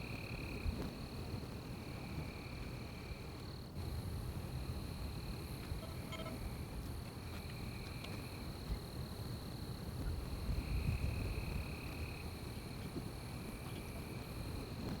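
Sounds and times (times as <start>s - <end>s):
high insect trill: 0.0s - 15.0s
lower insect trill: 1.7s - 15.0s.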